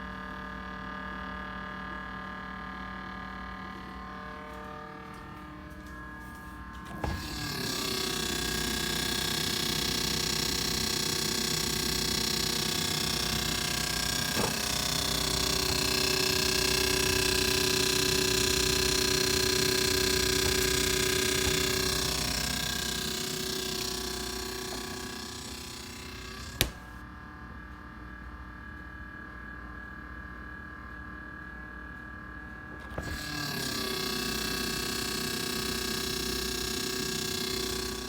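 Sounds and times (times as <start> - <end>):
refrigerator whirring: 0.0 - 38.0.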